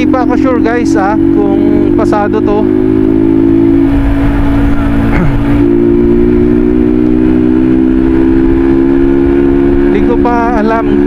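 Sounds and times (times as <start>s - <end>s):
motorcycle engine cruising: 0.0s - 11.0s
road rumble: 0.0s - 11.0s
wind: 0.0s - 11.0s.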